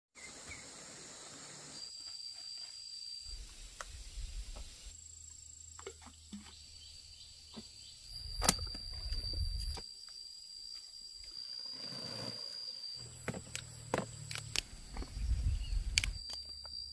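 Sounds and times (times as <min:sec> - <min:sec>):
high-pitched insect drone: 0:00.2 - 0:05.7, 0:06.6 - 0:16.9.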